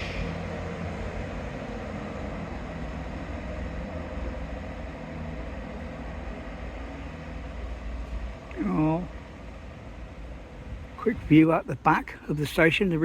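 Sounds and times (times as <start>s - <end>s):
train engine humming: 0.0s - 13.0s.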